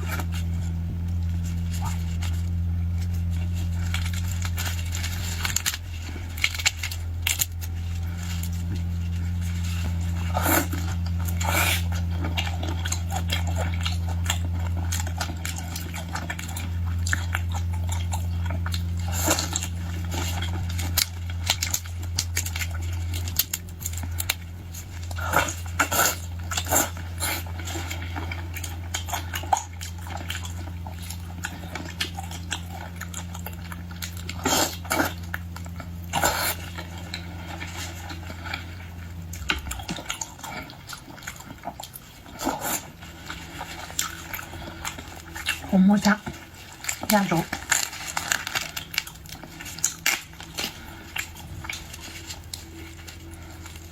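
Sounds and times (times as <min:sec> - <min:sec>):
crunching and chewing: 0:00.0 - 0:53.9
steady low hum: 0:00.0 - 0:53.9.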